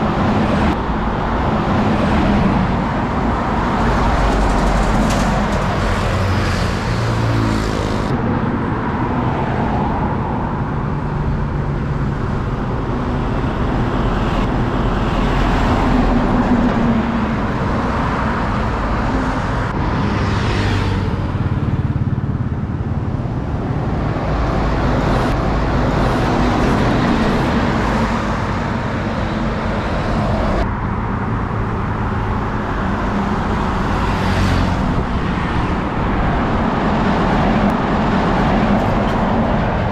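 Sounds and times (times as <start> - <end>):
highway traffic passing: 0.0 - 39.9.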